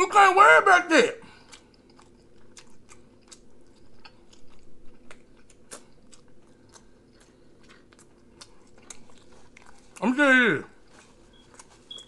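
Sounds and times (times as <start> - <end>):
person chewing food: 1.2 - 12.0.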